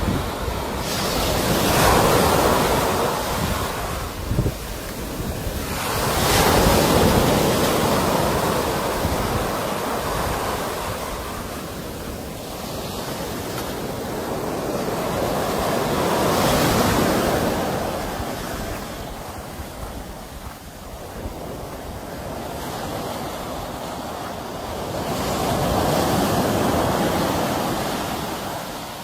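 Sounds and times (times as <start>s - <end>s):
sea waves breaking: 0.0s - 29.0s.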